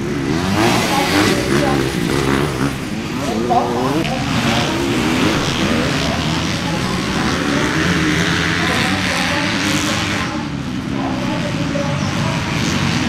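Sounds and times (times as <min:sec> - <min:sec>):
dirt bike engines running hard: 0:00.0 - 0:13.0.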